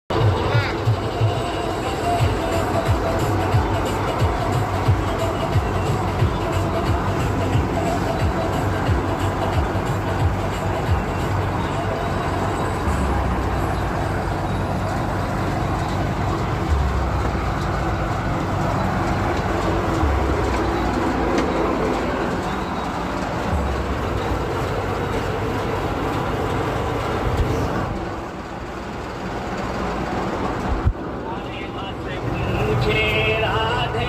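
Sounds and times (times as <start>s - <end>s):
tractor diesel engine running: 0.1s - 34.0s.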